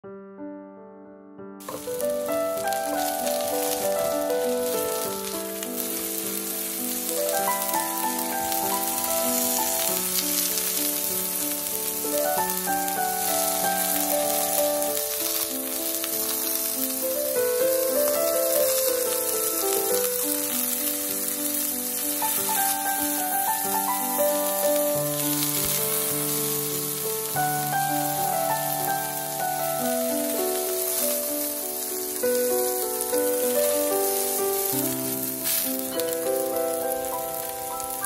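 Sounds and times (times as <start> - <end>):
mushrooms sizzling in a frying pan: 1.6 - 38.0.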